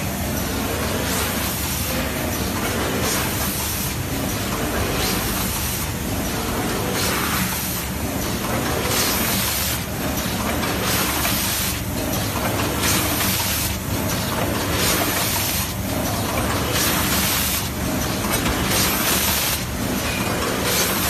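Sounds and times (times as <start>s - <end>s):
machine mechanical hum: 0.0s - 21.0s.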